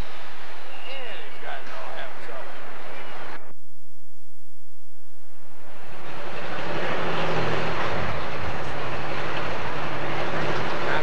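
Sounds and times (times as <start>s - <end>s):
diesel engine roaring: 0.0s - 3.4s, 5.4s - 11.0s
faint hum: 0.0s - 11.0s.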